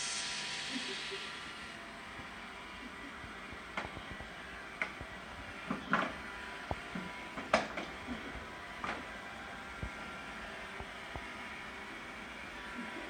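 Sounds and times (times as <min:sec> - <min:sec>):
robot vacuum whirring hum: 0:00.0 - 0:13.0.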